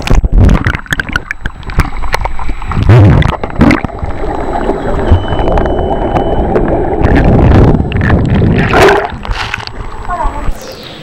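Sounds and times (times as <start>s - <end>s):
water splashing: 0.0s - 10.6s
muffled underwater rushing and bubbling: 0.0s - 11.0s.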